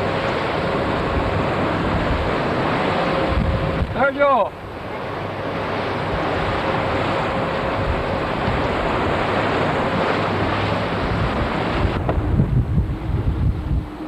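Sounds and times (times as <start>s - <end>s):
water noise: 0.0s - 14.0s
wind on microphone: 0.0s - 14.0s.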